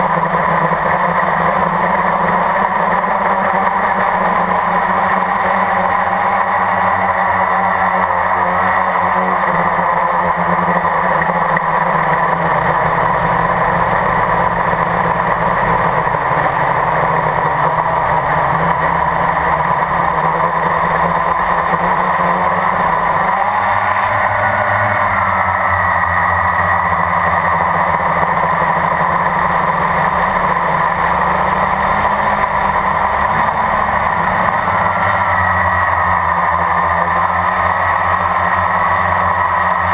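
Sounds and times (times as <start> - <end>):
quadcopter propellers droning: 0.0 - 39.9.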